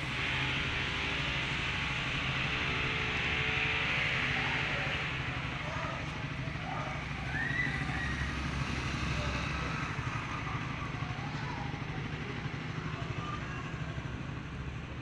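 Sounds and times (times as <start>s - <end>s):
faint distant voices: 0.2s - 15.0s.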